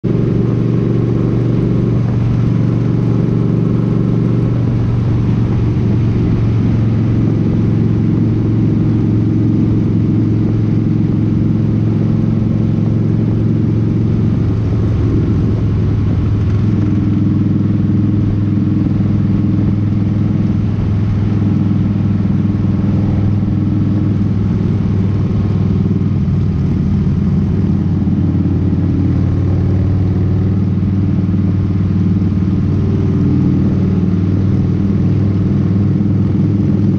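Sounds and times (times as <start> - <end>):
motorcycle engine cruising: 0.0 - 36.9
wind rush: 0.0 - 36.9.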